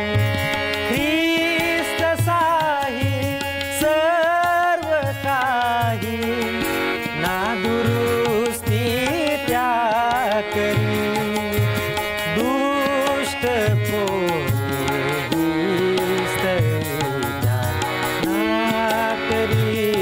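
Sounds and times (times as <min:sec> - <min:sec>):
harmonium: 0:00.0 - 0:20.0
man singing with vibrato: 0:00.0 - 0:20.0
tabla beat: 0:00.0 - 0:20.0.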